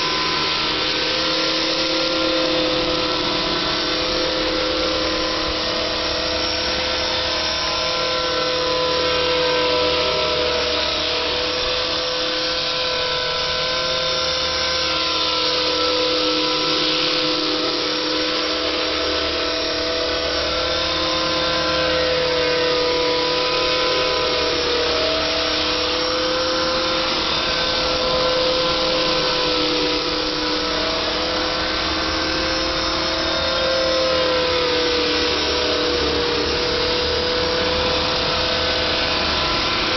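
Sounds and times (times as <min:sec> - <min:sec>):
rc helicopter motor whine: 0:00.0 - 0:39.9
rotor noise: 0:00.0 - 0:39.9.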